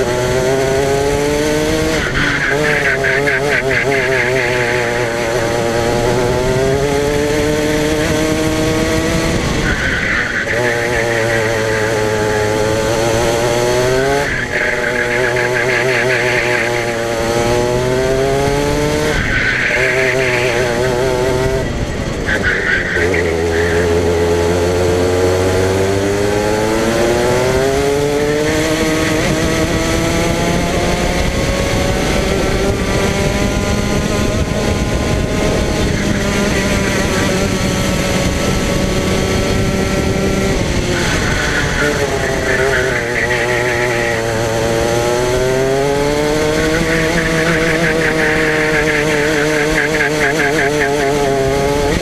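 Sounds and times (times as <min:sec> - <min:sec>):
go-kart engine accelerating: 0:00.0 - 0:52.0.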